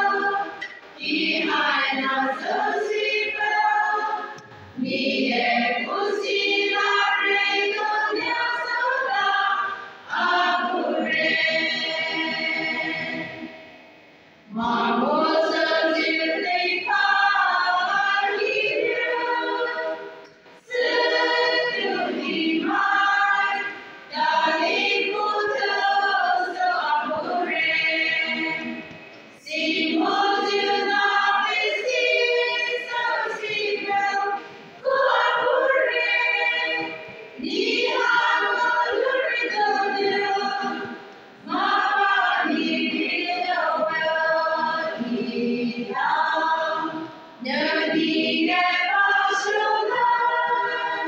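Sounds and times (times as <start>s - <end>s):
women's choir singing: 0.0s - 51.0s.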